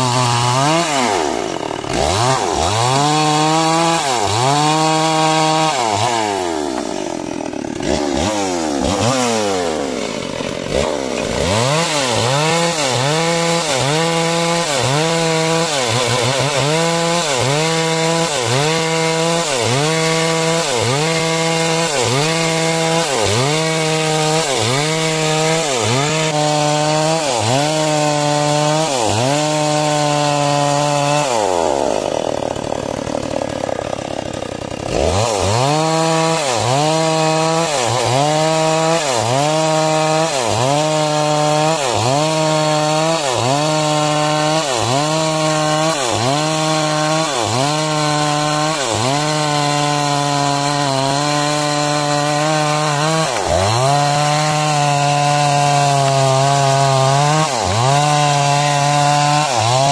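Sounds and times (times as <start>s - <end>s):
chainsaw cutting timber: 0.0s - 59.9s.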